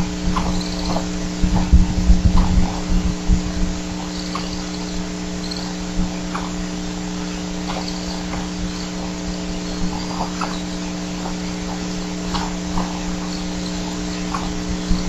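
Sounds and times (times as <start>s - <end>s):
insects and frogs chirping: 0.0s - 15.0s
steady electrical hum: 0.0s - 15.0s.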